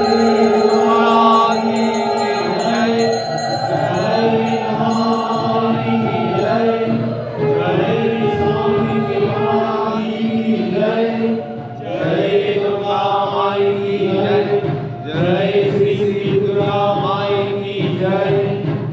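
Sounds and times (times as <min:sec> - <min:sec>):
voices chanting mantras: 0:00.0 - 0:18.9.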